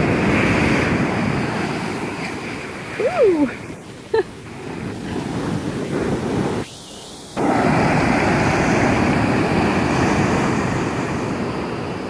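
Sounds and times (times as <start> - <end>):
ocean surf breaking on beach: 0.0 - 12.0
wind on microphone: 0.0 - 12.0.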